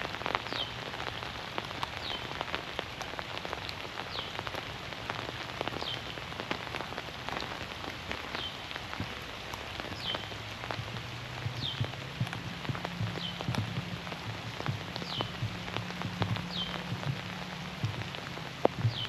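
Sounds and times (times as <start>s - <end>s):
drips ticking from trees: 0.0s - 19.0s
rain falling in forest: 0.0s - 19.0s.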